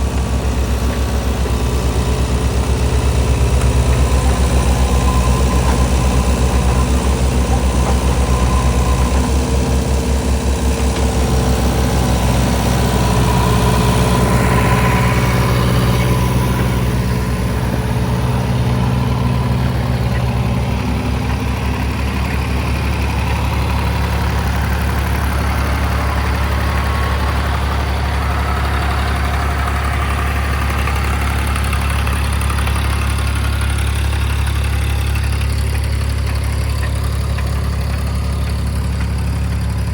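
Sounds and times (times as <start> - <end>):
excavator engine humming: 0.0 - 39.9.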